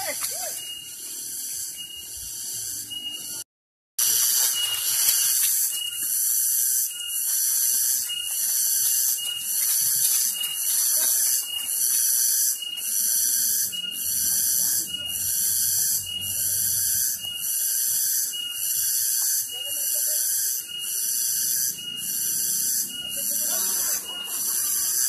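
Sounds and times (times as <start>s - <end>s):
cicadas buzzing: 0.0s - 3.4s, 4.0s - 25.0s.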